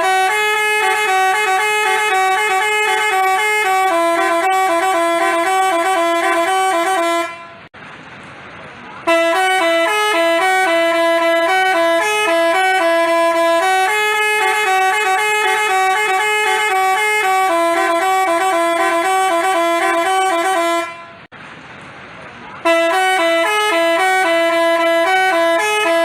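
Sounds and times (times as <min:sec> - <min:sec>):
bus horn playing a tune: 0:00.0 - 0:07.7, 0:09.0 - 0:21.3, 0:22.6 - 0:26.0.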